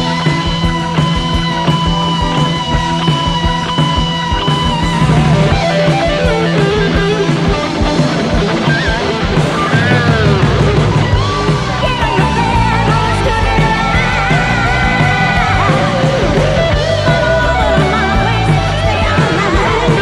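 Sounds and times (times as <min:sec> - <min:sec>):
bass and drums: 0:00.0 - 0:20.0
electric guitar bending notes: 0:00.0 - 0:20.0.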